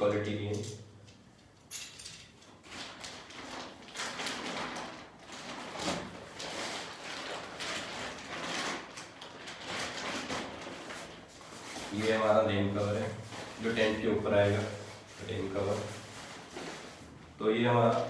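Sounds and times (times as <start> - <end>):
tent fabric rustling: 2.6 - 17.2.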